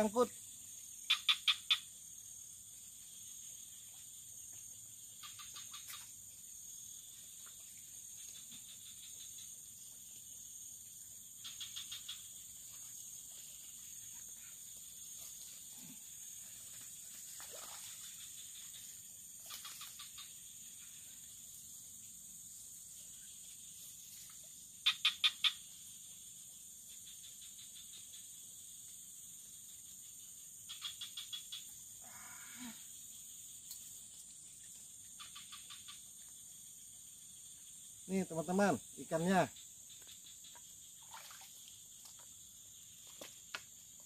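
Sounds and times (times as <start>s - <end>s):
quick frog calls: 0.0s - 21.6s, 22.4s - 26.3s, 29.6s - 44.0s
high insect drone: 0.0s - 44.0s.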